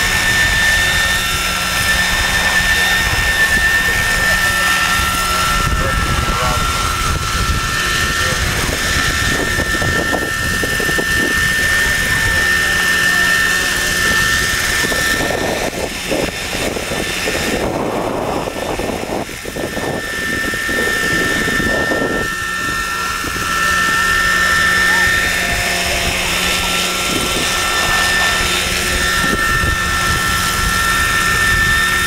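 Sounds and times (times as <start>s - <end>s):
model helicopter whine: 0.0s - 32.0s
wind buffeting microphone: 0.0s - 32.0s.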